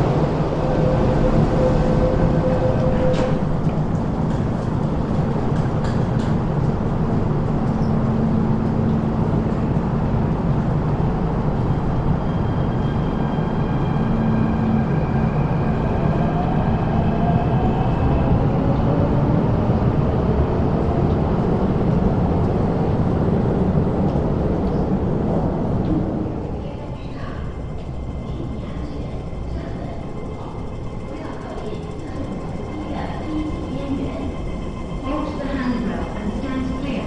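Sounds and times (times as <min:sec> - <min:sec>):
train cars rumbling: 0:00.0 - 0:37.0.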